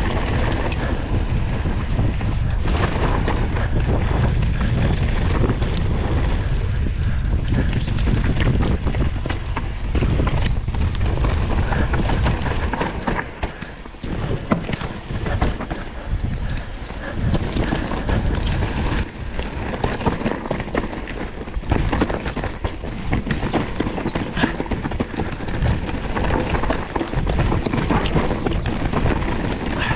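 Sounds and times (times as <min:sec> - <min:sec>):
mountain bike rattling downhill: 0:00.0 - 0:29.9
wind buffeting microphone: 0:00.0 - 0:29.9.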